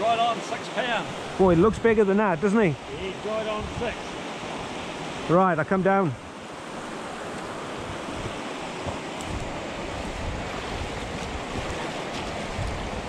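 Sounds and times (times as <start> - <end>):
river rushing over rocks: 0.0 - 13.0
wind buffeting microphone: 1.1 - 5.3, 6.4 - 13.0.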